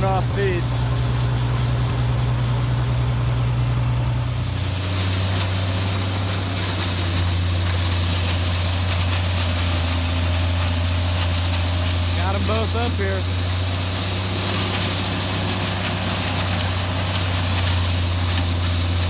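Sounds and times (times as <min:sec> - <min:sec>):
auger unloading feed: 0:00.0 - 0:19.0
tractor engine running: 0:00.0 - 0:19.0.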